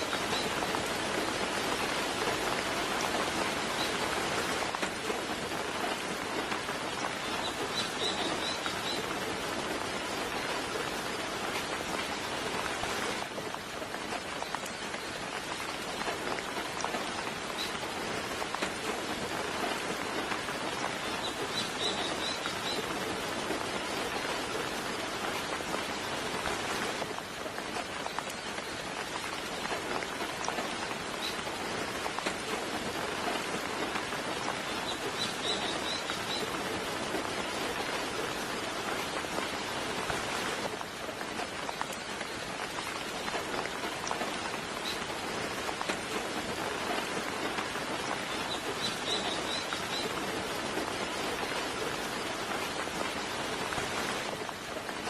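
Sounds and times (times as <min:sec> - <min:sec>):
soft steady rain: 0:00.0 - 0:55.0.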